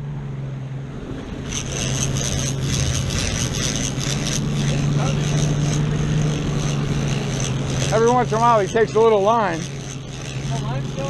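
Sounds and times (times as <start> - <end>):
boat engine running: 0.0 - 11.0
fishing reel ratcheting: 1.2 - 11.0.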